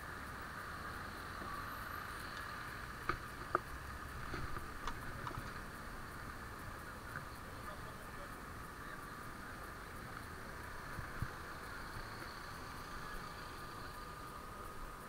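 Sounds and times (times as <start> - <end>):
bicycle riding hiss: 0.0 - 15.0.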